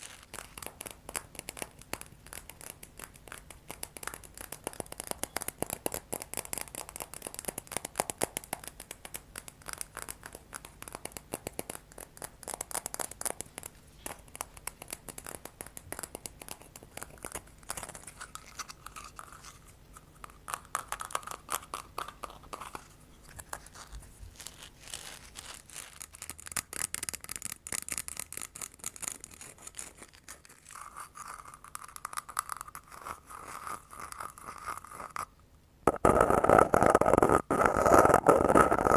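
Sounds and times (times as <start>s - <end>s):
tapping and scratching: 0.0s - 35.3s, 35.9s - 38.9s.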